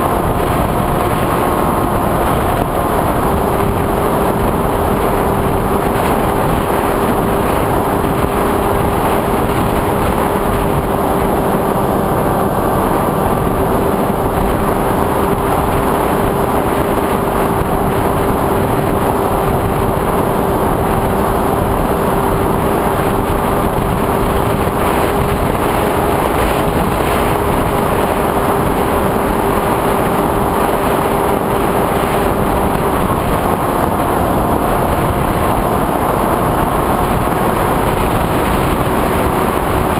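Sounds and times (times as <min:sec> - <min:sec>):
drone propeller whine: 0:00.0 - 0:39.9.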